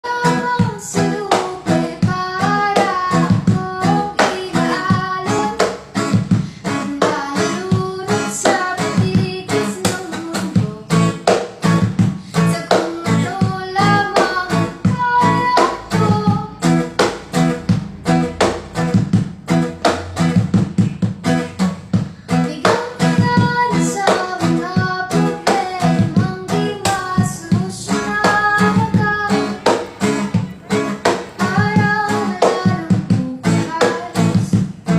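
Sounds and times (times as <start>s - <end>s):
person singing: 0.0s - 5.9s, 6.6s - 11.4s, 12.1s - 17.5s, 22.2s - 34.9s
plucked guitar: 0.0s - 34.9s.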